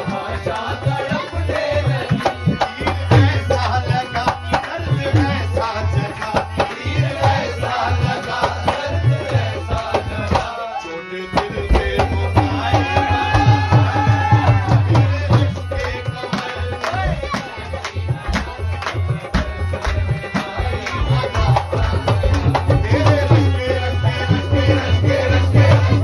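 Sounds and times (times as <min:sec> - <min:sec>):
hand drum rhythm: 0:00.0 - 0:10.6, 0:11.4 - 0:26.0
man singing: 0:00.0 - 0:26.0.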